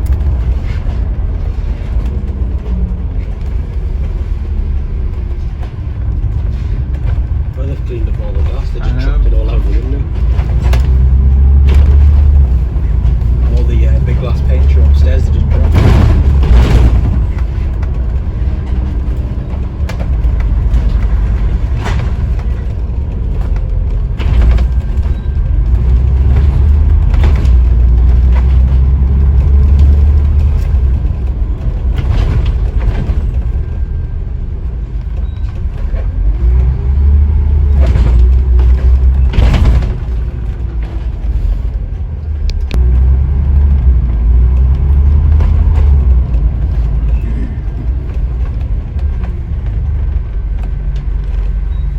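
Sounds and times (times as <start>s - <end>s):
bus body knocks and rattles: 0.0s - 51.9s
bus diesel engine rumble: 0.0s - 51.9s.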